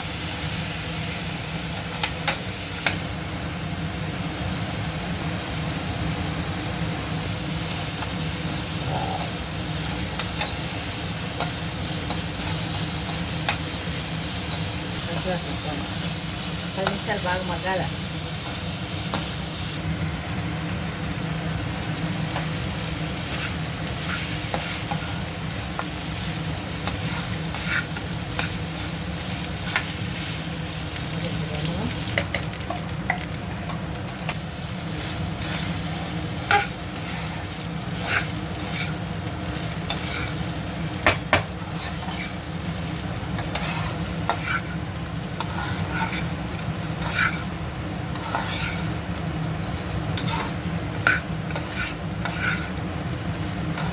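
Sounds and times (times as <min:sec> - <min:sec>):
onions sizzling in oil: 0:00.0 - 0:53.9.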